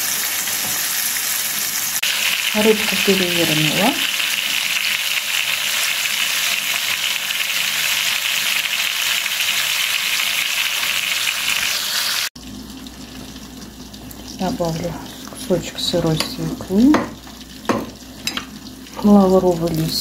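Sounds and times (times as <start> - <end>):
fish frying in hot oil: 0.0 - 20.0.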